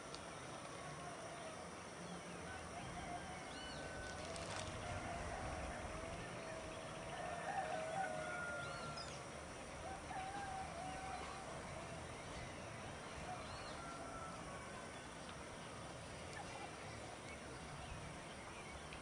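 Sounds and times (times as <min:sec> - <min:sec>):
low wind rumble: 0:01.6 - 0:19.0.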